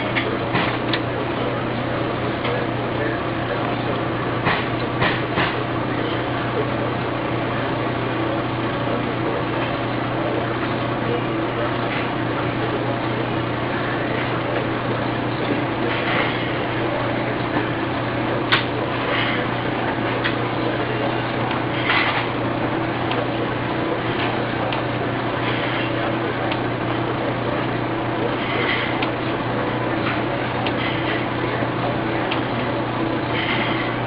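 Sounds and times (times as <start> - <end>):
printer mechanical hum: 0.0 - 34.0.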